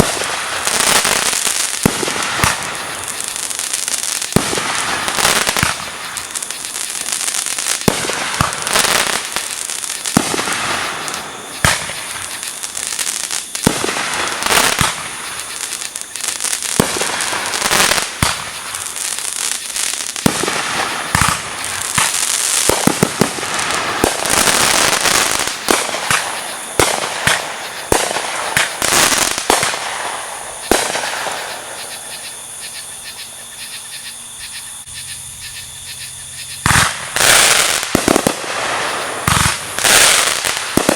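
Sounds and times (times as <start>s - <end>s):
fireworks bangs and crackling: 0.0s - 32.6s, 36.6s - 40.9s.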